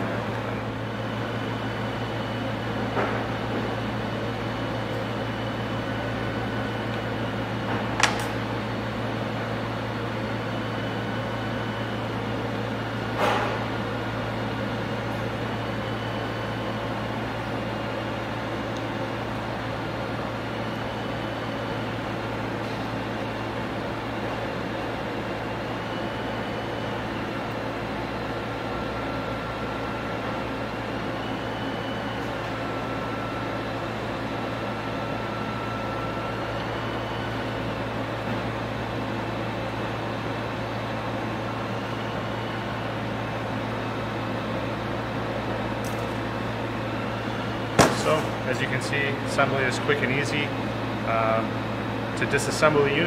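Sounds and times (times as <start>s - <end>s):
low machinery hum: 0.0s - 53.0s.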